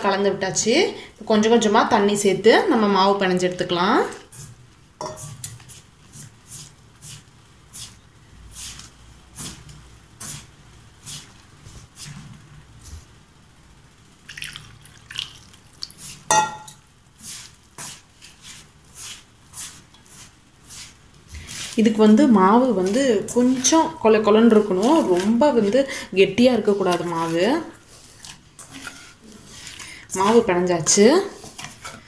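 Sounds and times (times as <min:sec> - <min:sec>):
dough squelching in metal bowl: 0:02.8 - 0:13.2, 0:14.2 - 0:32.0.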